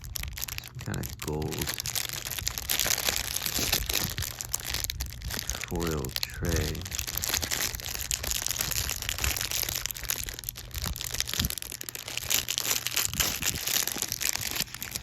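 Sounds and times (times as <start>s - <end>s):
candy wrappers crinkling: 0.0s - 15.0s.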